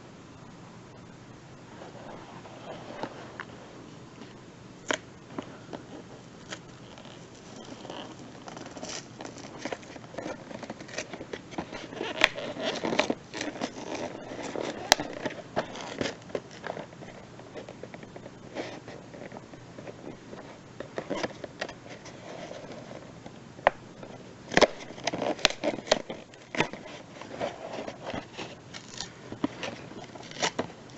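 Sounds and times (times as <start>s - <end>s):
plastic and cardboard crinkling: 4.2s - 30.9s.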